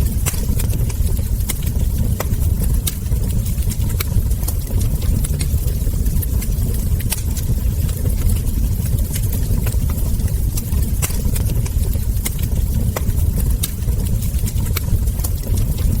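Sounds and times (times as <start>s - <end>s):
burning logs popping and snapping: 0.0s - 16.0s
low rumble of flames: 0.0s - 16.0s.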